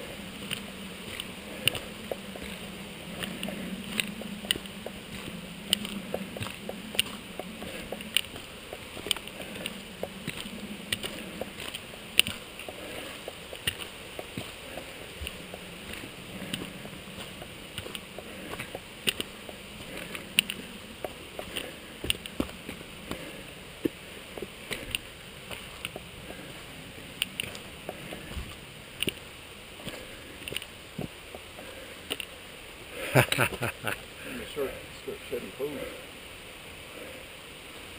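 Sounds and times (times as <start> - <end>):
footsteps on stony trail: 0.0 - 32.4, 33.0 - 34.4
walking stick clicking on rock: 0.0 - 32.4
steady rushing background: 0.0 - 36.0.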